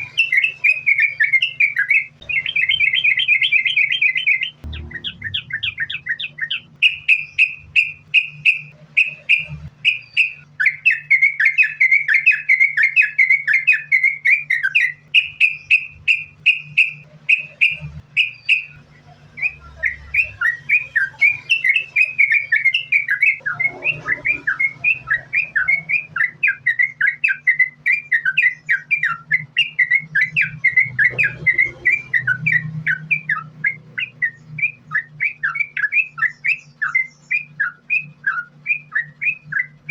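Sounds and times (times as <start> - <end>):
bulbul singing whistled notes: 0.0 - 39.9.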